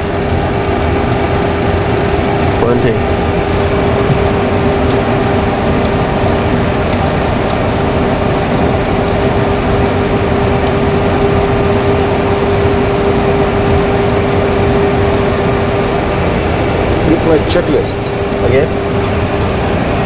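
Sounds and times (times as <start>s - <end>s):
cockpit fan and air rush: 0.0s - 20.0s
constant mid-pitched hum: 0.0s - 20.0s.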